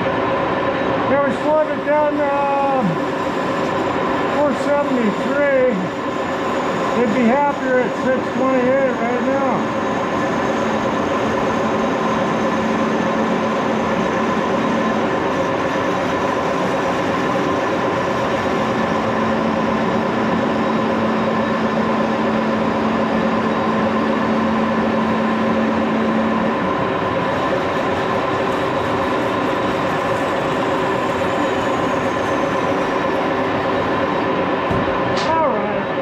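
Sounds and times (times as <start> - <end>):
lathe whirring: 0.0 - 36.0.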